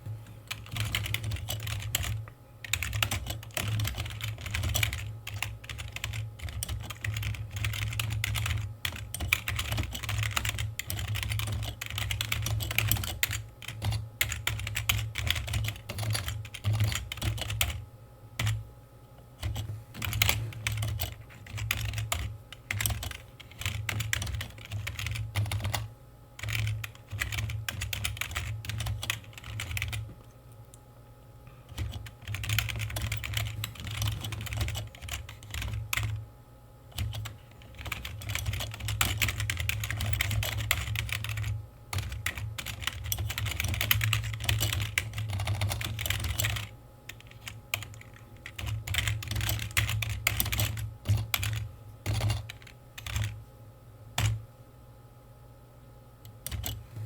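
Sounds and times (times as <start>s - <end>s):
computer keyboard typing: 0.4s - 17.8s, 18.4s - 18.6s, 19.4s - 30.1s, 31.7s - 36.2s, 36.9s - 53.4s, 54.2s - 54.4s, 56.3s - 56.8s.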